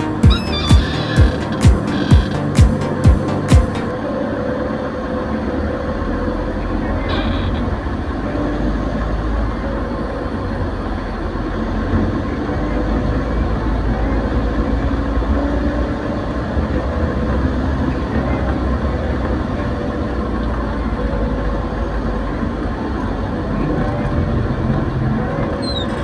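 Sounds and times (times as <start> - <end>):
motorcycle engine: 0.0 - 26.0
road and air noise: 0.0 - 26.0.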